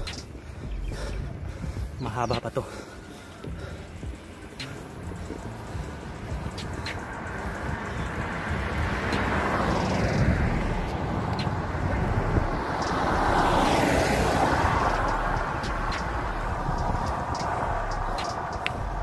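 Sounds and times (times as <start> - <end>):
wind rushing over microphone: 3.4 - 19.0.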